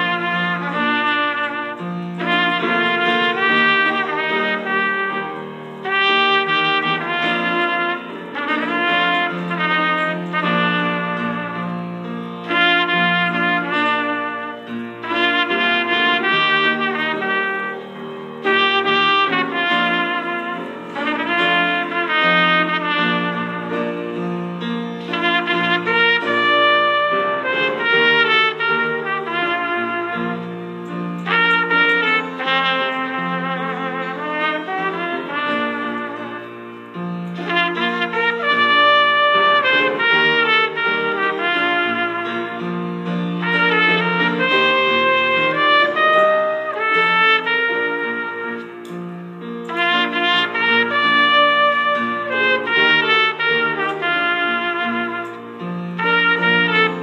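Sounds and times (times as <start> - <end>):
piano accompaniment: 0.0 - 57.0
trumpet playing slow melody: 0.0 - 57.0.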